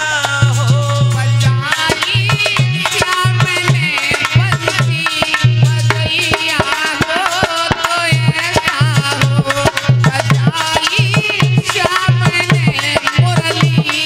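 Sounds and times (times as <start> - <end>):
hand drum fast rhythm: 0.0 - 14.0.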